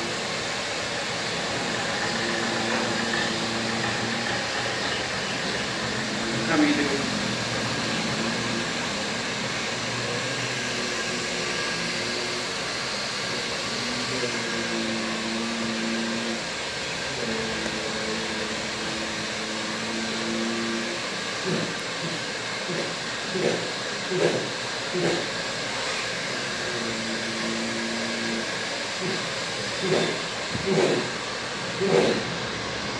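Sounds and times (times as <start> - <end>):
electric fan whooshing hum: 0.0 - 32.9.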